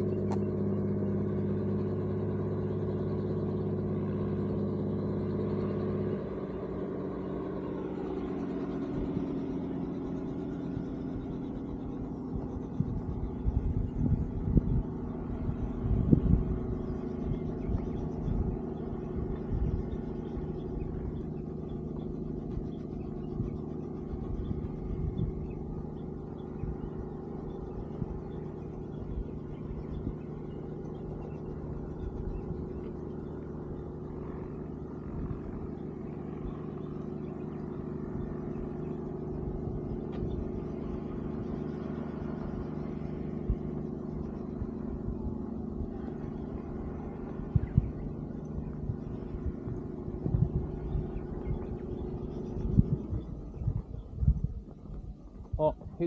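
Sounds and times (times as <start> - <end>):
helicopter droning: 0.0 - 56.0.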